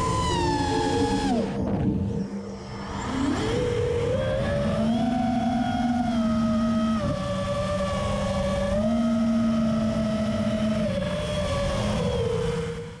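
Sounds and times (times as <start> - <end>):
drone motors whining: 0.0 - 13.0
rush of wind: 0.0 - 13.0.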